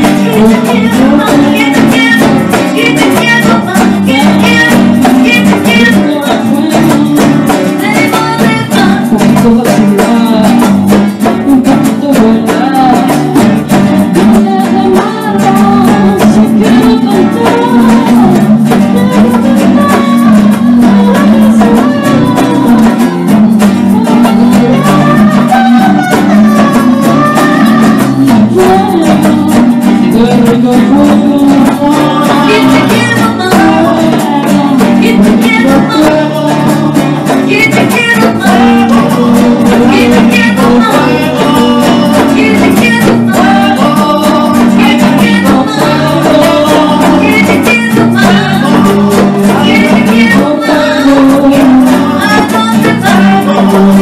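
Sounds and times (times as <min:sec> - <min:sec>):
live band music: 0:00.0 - 0:54.0
person singing: 0:00.0 - 0:54.0.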